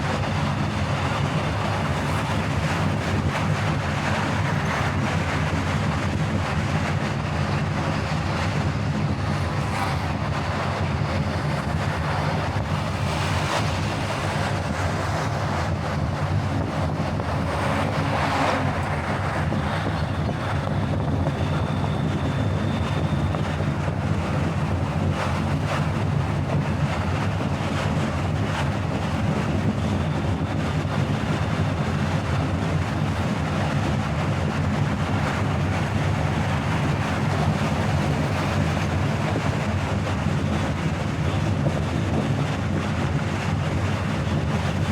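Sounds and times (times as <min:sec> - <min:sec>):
car road and engine rumble: 0:00.0 - 0:44.9
wind noise: 0:00.0 - 0:44.9.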